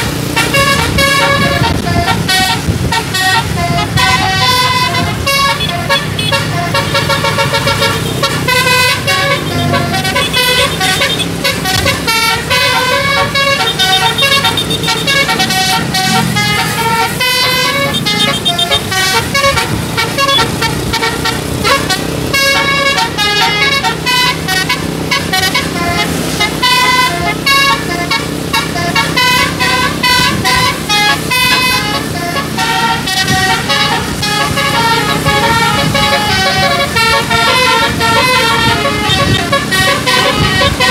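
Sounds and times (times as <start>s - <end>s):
bus engine hum: 0.0s - 40.9s
musical air horn melody: 0.0s - 40.9s.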